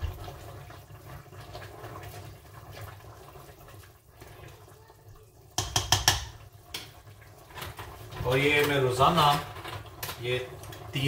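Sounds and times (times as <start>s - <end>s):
gravy bubbling in pot: 0.0s - 11.0s.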